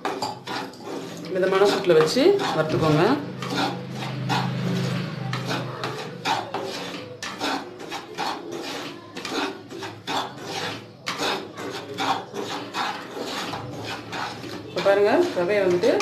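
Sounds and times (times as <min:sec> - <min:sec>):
wooden spatula scraping a pan: 0:00.0 - 0:16.0.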